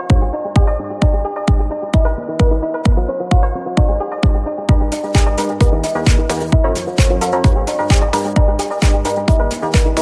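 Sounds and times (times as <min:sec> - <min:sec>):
kick drum beat: 0:00.0 - 0:10.0
synth chords: 0:00.0 - 0:10.0.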